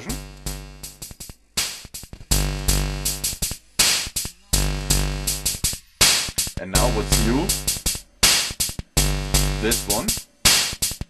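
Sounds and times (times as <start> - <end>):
drum-machine beat: 0.0 - 11.0.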